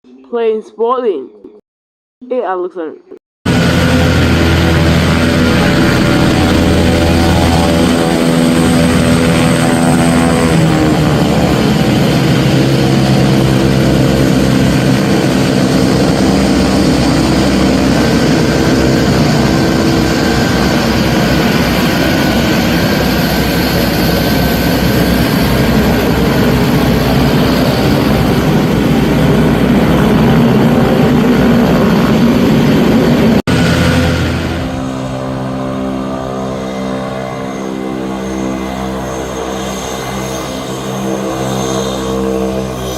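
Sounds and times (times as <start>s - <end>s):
propeller aircraft engines running: 3.5s - 42.9s.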